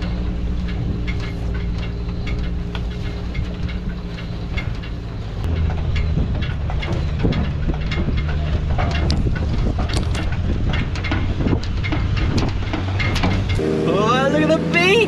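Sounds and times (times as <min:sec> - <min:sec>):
clicks and rattles: 0:00.0 - 0:13.6
four-wheel drive engine running: 0:00.0 - 0:15.0.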